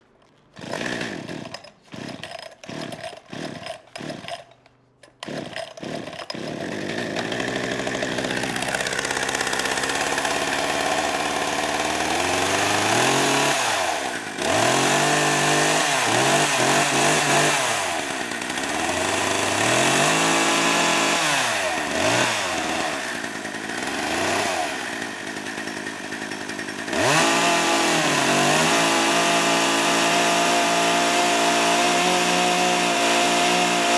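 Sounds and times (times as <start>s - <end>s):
chainsaw engine revving: 0.5s - 4.5s, 5.2s - 33.9s.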